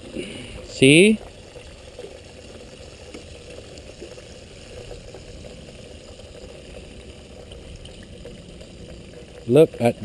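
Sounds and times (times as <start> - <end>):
oil bubbling and sizzling: 0.0 - 10.0.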